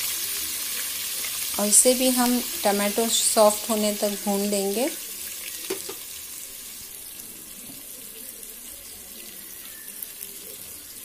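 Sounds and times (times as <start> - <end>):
tomato and spices sizzling in oil: 0.0 - 11.0.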